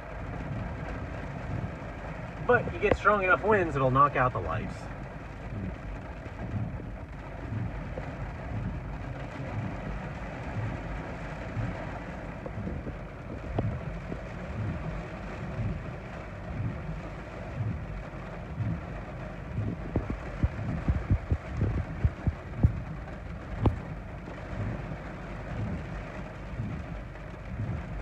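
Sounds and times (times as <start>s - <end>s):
rain and wind on a car: 0.0s - 28.0s
low thuds: 0.3s - 3.8s, 4.4s - 28.0s.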